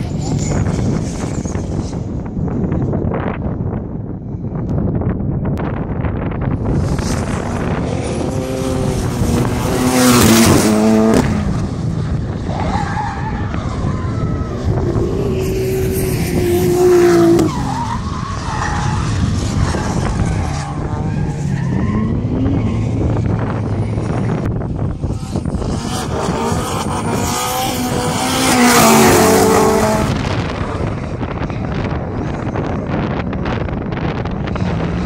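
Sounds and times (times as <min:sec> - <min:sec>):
car engines revving hard: 0:06.6 - 0:35.0.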